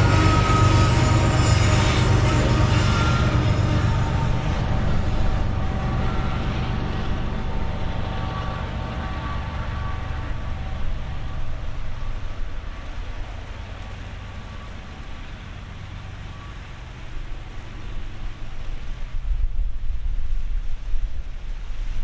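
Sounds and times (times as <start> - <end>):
faint steady tones: 0.0 - 21.4
diesel locomotives rumbling: 0.0 - 22.0.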